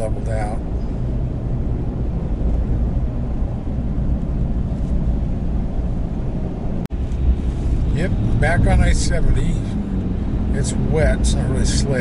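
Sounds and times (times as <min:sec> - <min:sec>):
truck cab engine drone: 0:00.0 - 0:12.0
tyres on wet road: 0:00.0 - 0:12.0.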